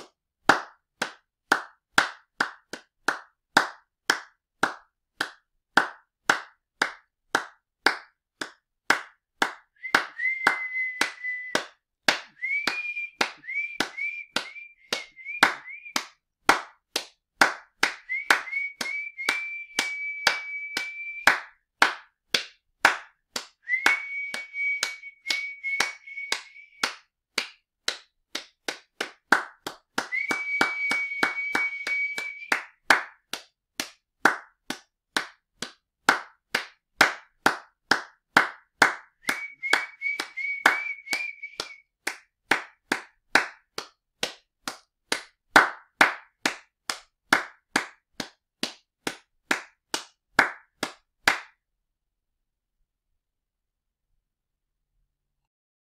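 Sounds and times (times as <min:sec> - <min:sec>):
hand clapping: 0:00.0 - 0:51.6.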